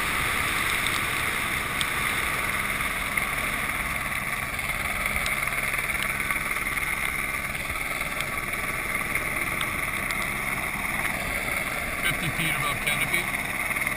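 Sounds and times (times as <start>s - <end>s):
helicopter rotor drone: 0.0s - 13.9s.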